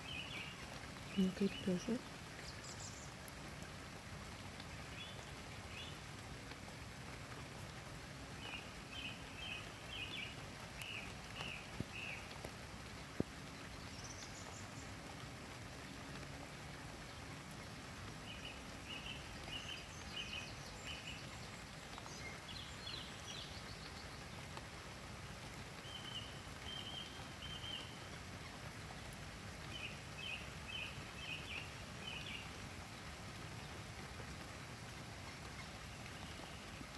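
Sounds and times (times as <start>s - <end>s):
songbird singing: 0.0s - 6.2s, 7.5s - 36.9s.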